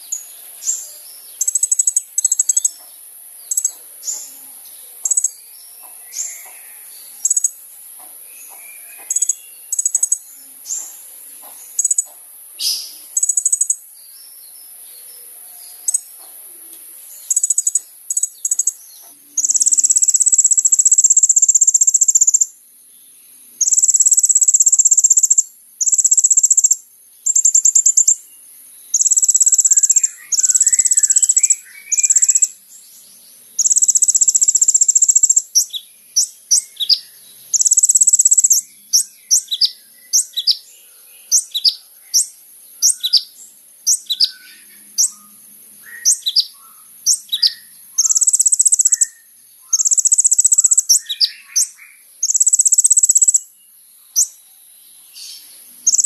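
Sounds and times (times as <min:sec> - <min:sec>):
steady high hiss: 0:00.0 - 0:56.0
sunbird chirps and trills: 0:00.0 - 0:56.0.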